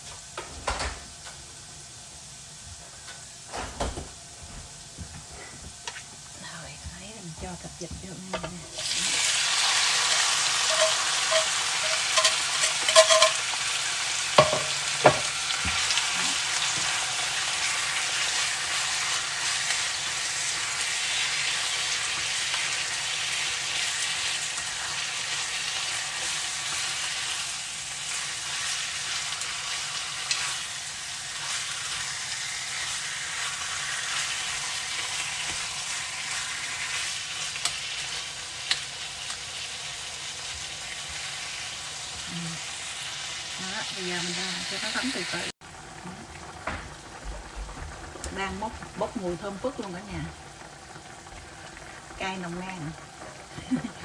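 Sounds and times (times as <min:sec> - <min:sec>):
meat sizzling in hot oil: 0:07.3 - 0:54.0.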